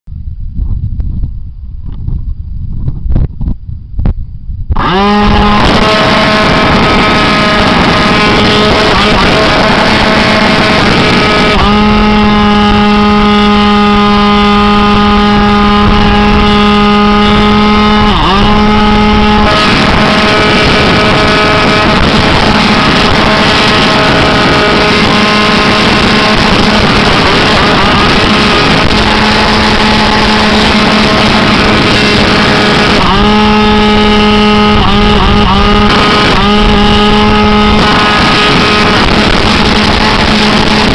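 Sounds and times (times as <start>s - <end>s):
model plane motor and propeller: 4.7s - 40.9s.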